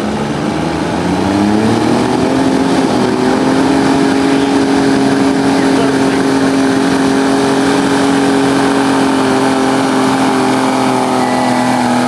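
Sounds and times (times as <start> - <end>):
diesel tractor engine under load: 0.0 - 12.0.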